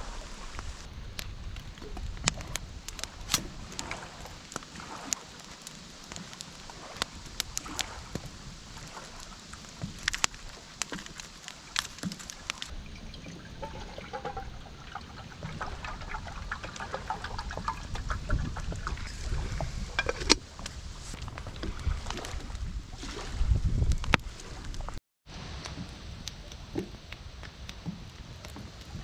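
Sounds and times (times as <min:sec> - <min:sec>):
water trickling and lapping: 0:00.0 - 0:29.0.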